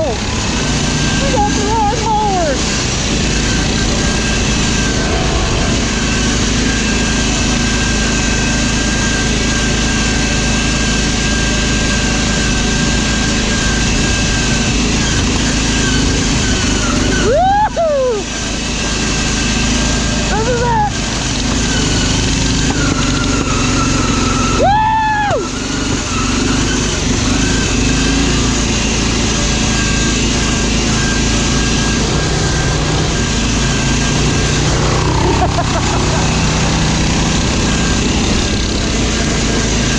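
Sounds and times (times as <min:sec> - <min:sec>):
constant whine: 0:00.0 - 0:39.9
lawn mower engine running: 0:00.0 - 0:39.9.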